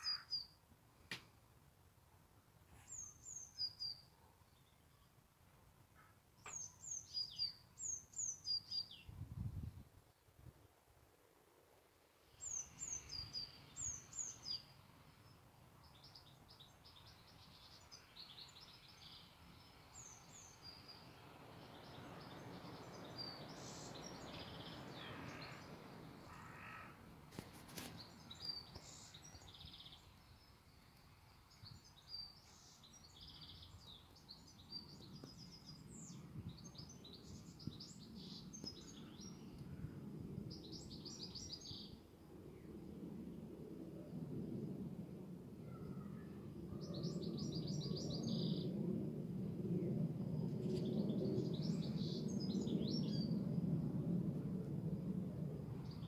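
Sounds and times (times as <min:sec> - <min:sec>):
songbirds chirping: 0:00.0 - 0:10.4, 0:12.3 - 0:43.1, 0:45.8 - 0:48.9, 0:49.8 - 0:53.4.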